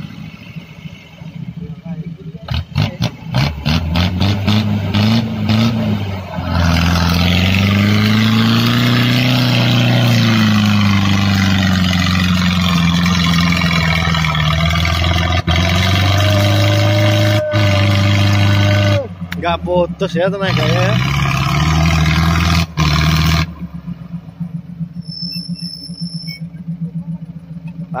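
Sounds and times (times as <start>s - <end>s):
engine working hard under load: 0.0s - 28.0s.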